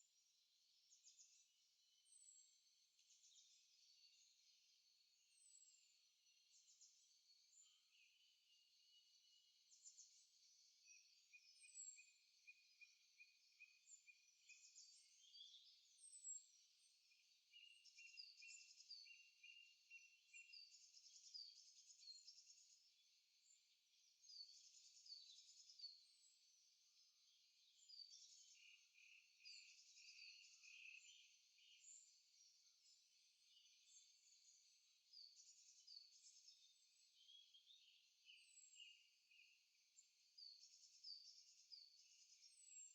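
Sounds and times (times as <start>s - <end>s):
songbirds singing faintly: 0.0s - 42.9s.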